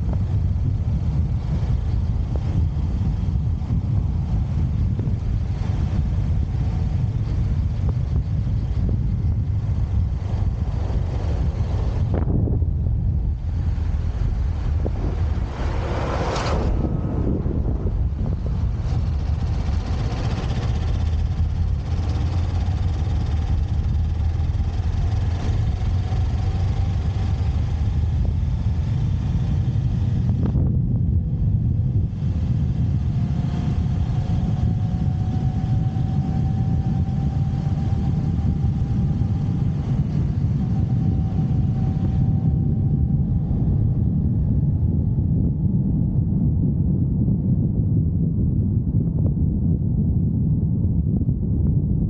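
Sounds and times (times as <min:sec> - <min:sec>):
road noise: 0:00.0 - 0:46.8
motorcycle engine rumble: 0:00.0 - 0:52.0.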